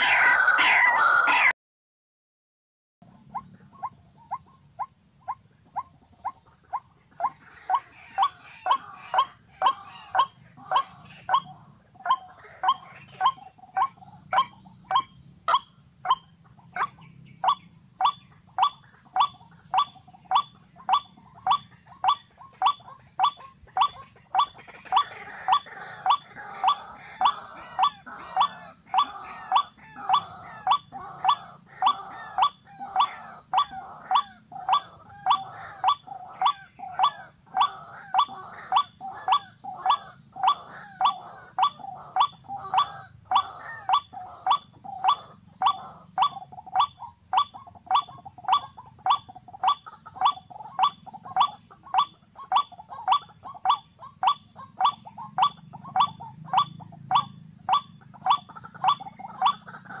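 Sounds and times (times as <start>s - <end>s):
bird harsh repeated call: 0.0s - 1.6s, 3.3s - 60.0s.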